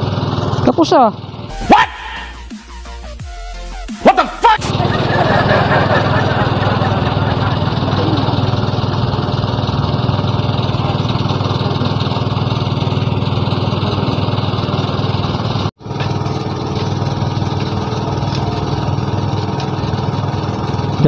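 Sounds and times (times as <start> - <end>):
small engine running: 0.0 - 3.2, 3.8 - 21.0.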